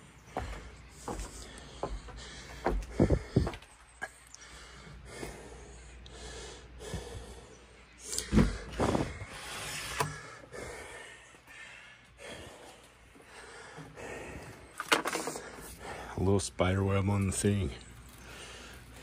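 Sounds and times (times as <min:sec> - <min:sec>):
man breathing: 0:00.3 - 0:16.3, 0:18.0 - 0:19.0.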